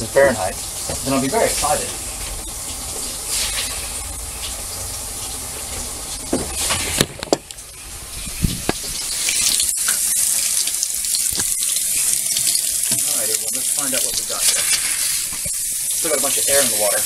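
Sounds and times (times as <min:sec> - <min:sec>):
water running into metal sink: 0:00.0 - 0:17.0.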